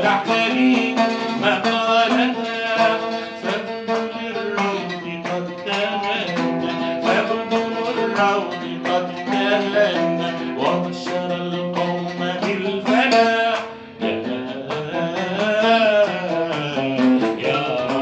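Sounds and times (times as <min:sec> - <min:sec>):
plucked string instrument melody: 0:00.0 - 0:18.0.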